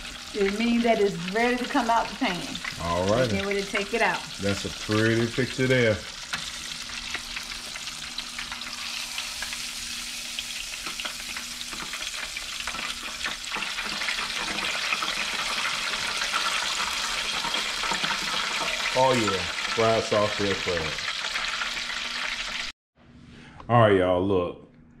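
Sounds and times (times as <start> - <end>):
crab deep-frying in oil: 0.0 - 22.7.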